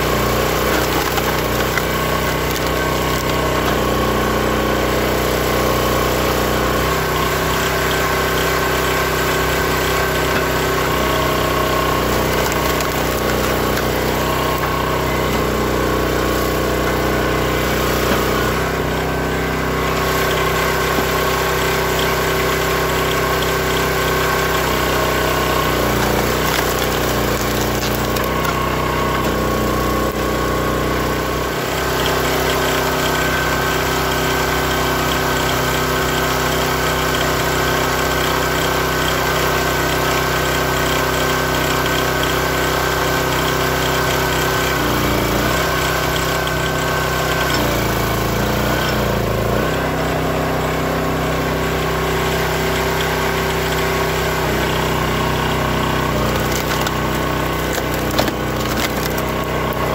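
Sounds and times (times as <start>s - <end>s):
log splitter gas engine running: 0.0s - 59.9s.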